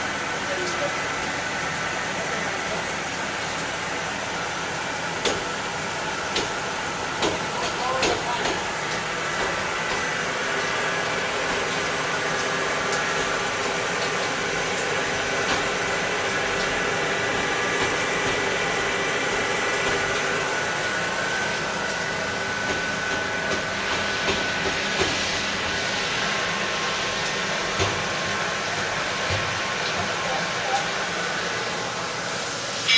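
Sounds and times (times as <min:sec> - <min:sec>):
milling machine hissing and whining: 0:00.0 - 0:32.9.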